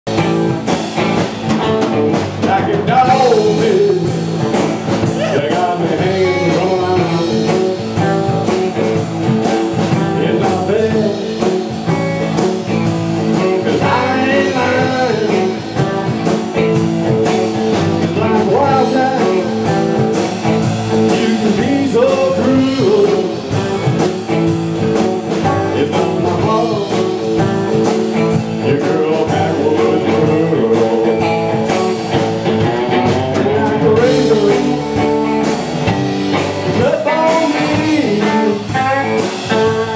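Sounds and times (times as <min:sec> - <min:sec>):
blues-rock band playing: 0:00.1 - 0:39.9
lead guitar bending notes: 0:00.1 - 0:39.9.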